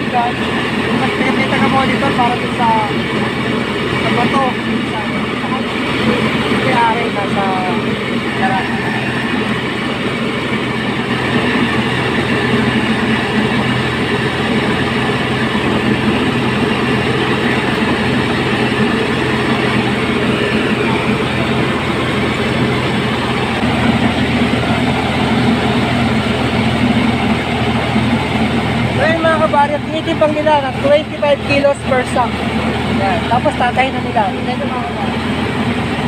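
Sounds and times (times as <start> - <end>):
rice mill machinery drone: 0.0 - 36.0.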